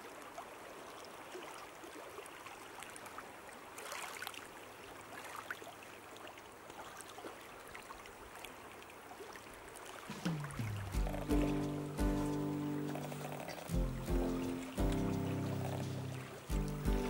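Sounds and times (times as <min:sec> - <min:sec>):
river water lapping over pebbles: 0:00.0 - 0:17.0.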